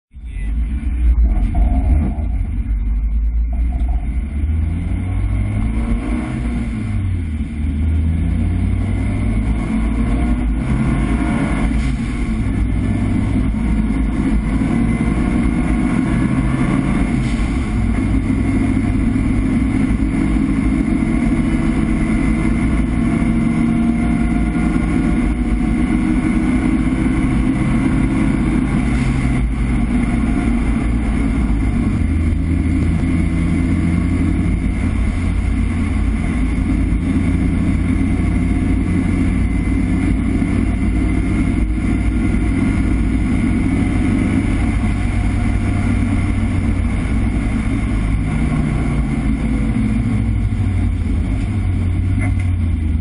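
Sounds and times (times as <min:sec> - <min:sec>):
car engine under way: 0:00.1 - 0:53.0.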